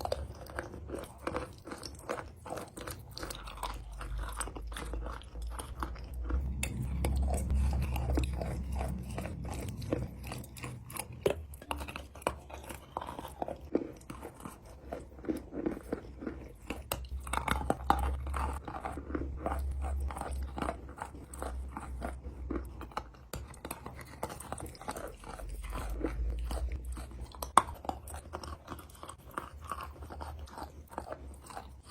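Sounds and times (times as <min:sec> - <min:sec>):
crunching bites and chewing: 0:00.0 - 0:31.9.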